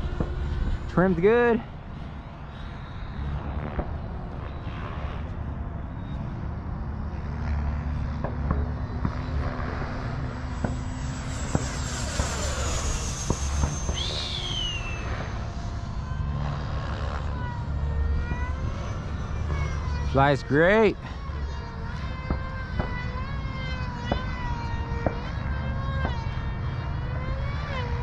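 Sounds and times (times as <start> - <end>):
model jet fan whining past: 0.0 - 28.0.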